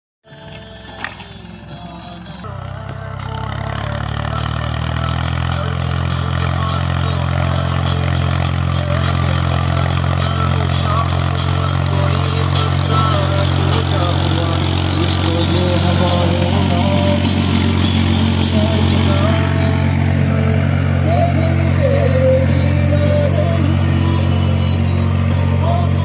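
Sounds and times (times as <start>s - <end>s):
tractor diesel engine under load: 0.2s - 26.0s.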